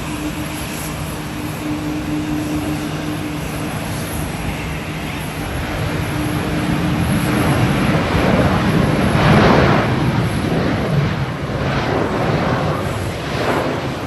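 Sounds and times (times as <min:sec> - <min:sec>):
jet engine rushing: 0:00.0 - 0:14.0.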